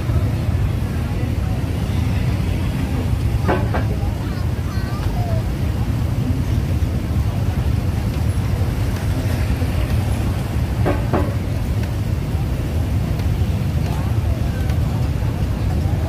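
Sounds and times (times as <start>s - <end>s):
heavy vehicles rumbling past: 0.0s - 16.0s.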